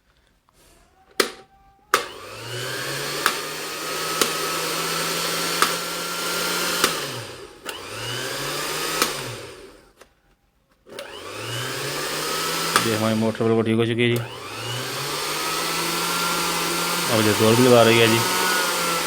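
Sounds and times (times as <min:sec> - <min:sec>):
juicer motor whirring: 0:01.9 - 0:09.9, 0:10.9 - 0:13.4, 0:14.2 - 0:19.0.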